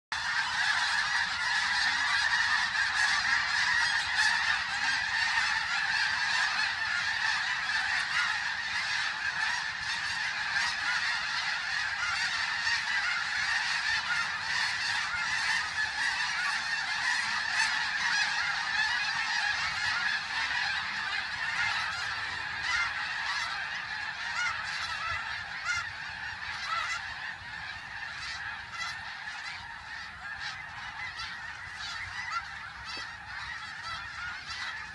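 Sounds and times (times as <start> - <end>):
geese honking: 0.1 - 34.9.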